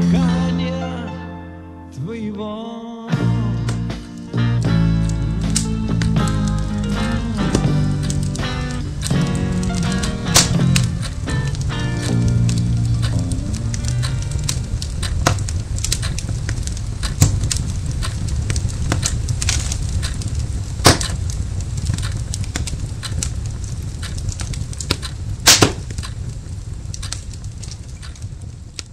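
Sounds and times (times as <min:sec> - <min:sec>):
wood fire crackling: 0:00.0 - 0:01.0, 0:03.2 - 0:28.9
fire pops: 0:03.2 - 0:28.9.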